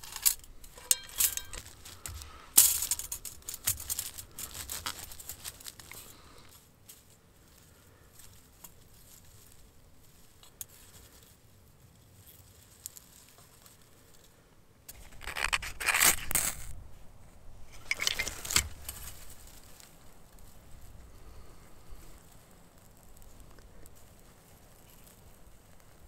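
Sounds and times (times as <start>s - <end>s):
wood shavings rustling: 0.0s - 16.8s, 17.7s - 26.0s.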